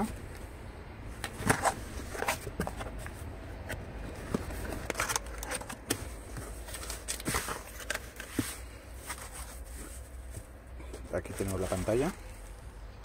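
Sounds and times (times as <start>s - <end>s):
cardboard and foam rustling: 1.3s - 12.6s.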